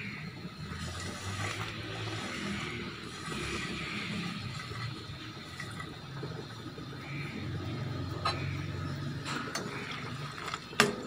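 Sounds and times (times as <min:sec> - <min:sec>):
dough deep-frying in oil: 0:00.0 - 0:11.0.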